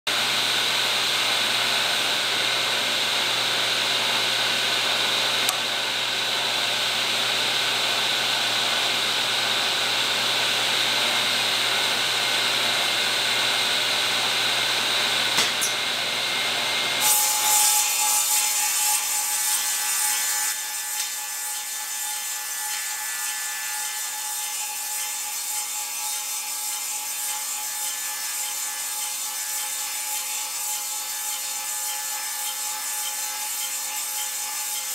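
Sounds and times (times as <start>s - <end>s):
saw cutting through wood: 0.1s - 34.9s.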